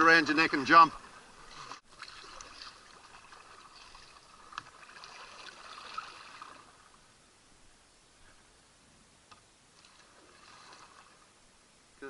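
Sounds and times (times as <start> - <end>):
water trickling and lapping: 0.0 - 11.8.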